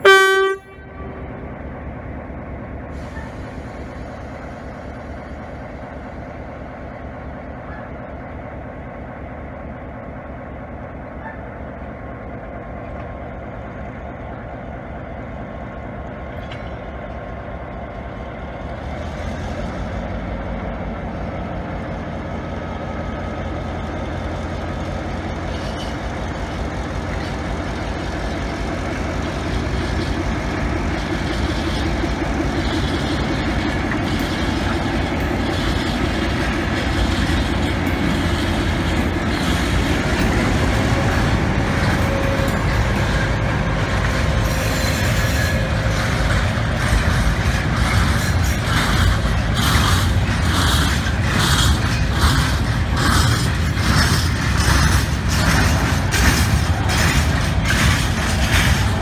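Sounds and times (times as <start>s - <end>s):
diesel locomotive engine throttling up: 0.0s - 59.0s.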